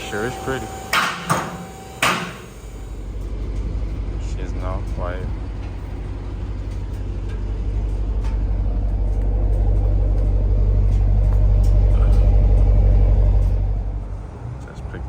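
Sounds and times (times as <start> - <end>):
car engine droning through exhaust: 0.0 - 15.0.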